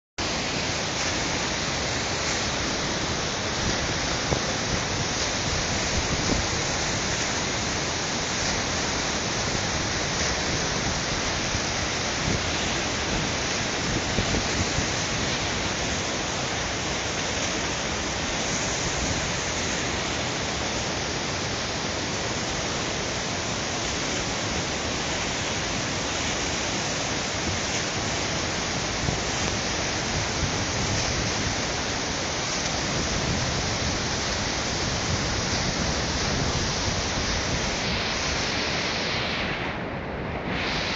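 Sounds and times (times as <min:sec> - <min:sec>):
water rushing over dam: 0:00.2 - 0:40.9.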